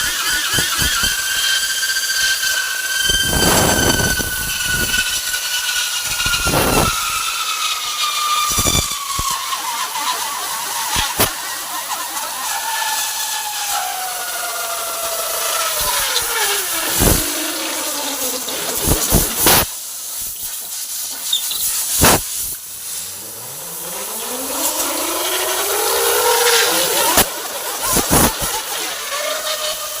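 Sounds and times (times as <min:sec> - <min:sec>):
whistling tone sliding in pitch: 0:00.1 - 0:19.6, 0:22.7 - 0:30.0
compressed air hissing: 0:02.3 - 0:30.0.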